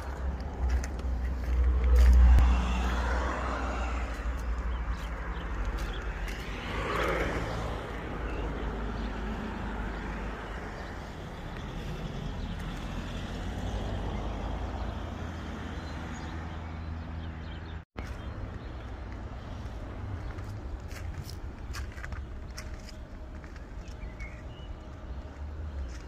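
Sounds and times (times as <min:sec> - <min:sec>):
outdoor noise: 0:00.0 - 0:26.0.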